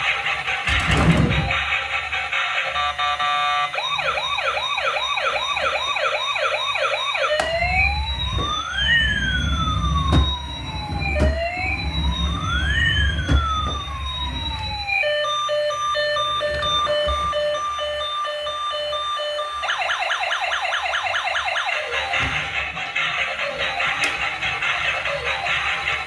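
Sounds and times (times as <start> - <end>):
toy siren yelping and wailing: 2.7 - 26.0.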